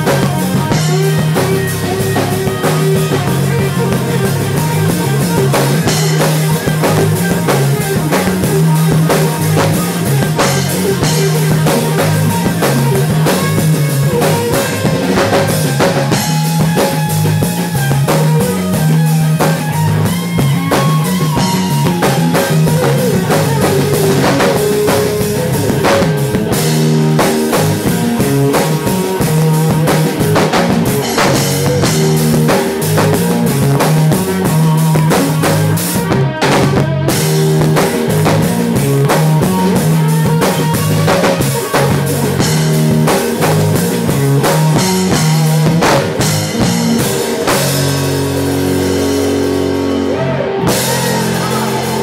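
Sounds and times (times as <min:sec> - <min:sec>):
drum kit playing: 0:00.0 - 0:52.0
electric bass riff: 0:00.0 - 0:52.0
electric guitar lines: 0:00.0 - 0:52.0.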